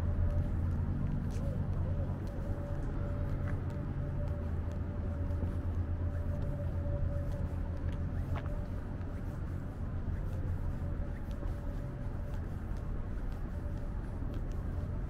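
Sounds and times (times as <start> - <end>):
faint steady tone: 0.0 - 15.0
low rumble of city traffic: 0.0 - 15.0.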